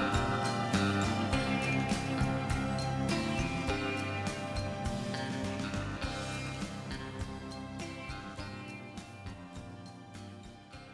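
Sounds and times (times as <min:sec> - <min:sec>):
music with steady beat: 0:00.0 - 0:10.9.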